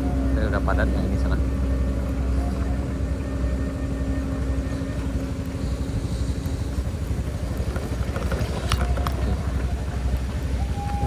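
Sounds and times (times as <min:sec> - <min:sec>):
low rumble: 0:00.0 - 0:11.0
vehicle engine running: 0:00.0 - 0:11.0.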